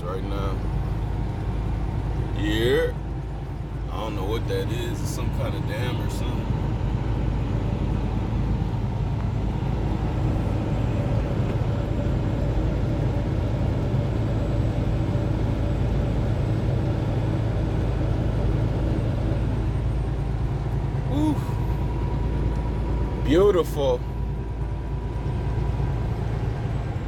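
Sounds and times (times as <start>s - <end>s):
road noise: 0.0s - 27.0s
truck engine drone: 0.0s - 27.0s.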